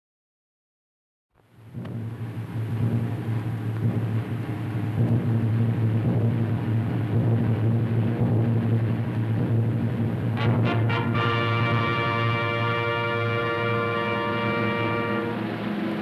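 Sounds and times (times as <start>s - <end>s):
old soundtrack hiss: 1.4s - 16.0s
low orchestral rumbling note: 1.6s - 16.0s.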